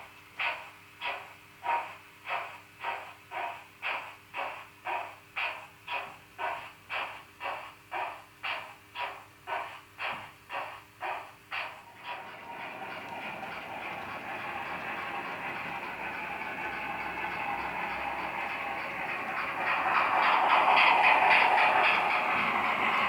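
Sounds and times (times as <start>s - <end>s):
model steam locomotive chuffs: 0.0s - 23.0s.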